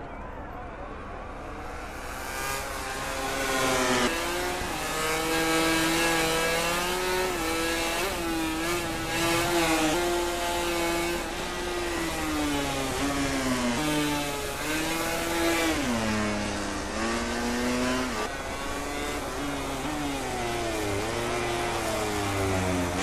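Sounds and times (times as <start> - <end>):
racing motorcycle engine: 1.2 - 23.0.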